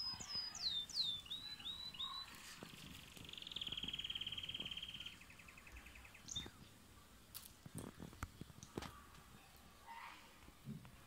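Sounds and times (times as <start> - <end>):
songbird singing: 0.0 - 10.4.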